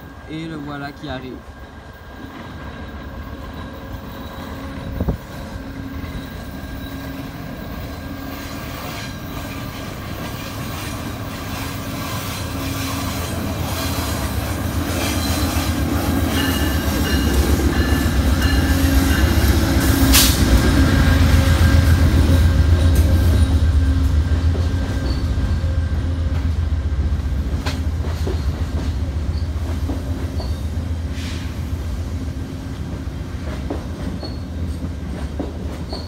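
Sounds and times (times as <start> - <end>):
diesel locomotive rumble: 1.3 - 35.9.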